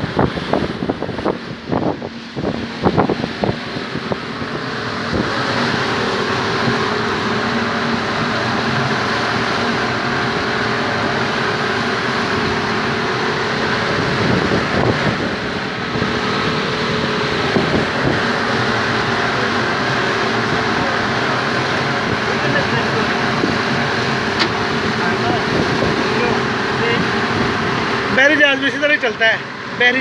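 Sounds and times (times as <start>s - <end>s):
outboard motor running: 0.0s - 30.0s
water rushing in boat wake: 0.0s - 30.0s.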